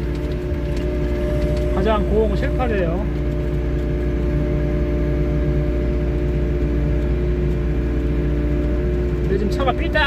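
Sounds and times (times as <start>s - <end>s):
excavator diesel engine running: 0.0s - 10.0s
steady whine: 0.0s - 10.0s.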